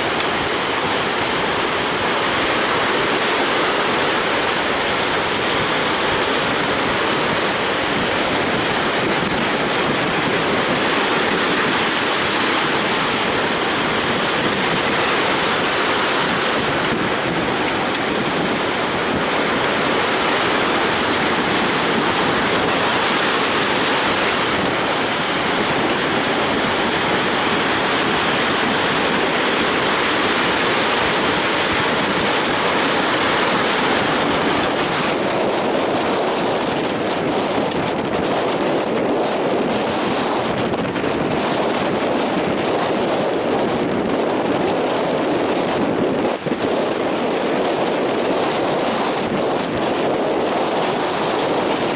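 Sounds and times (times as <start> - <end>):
heavy surf breaking on shore: 0.0 - 51.9
wind: 0.0 - 51.9.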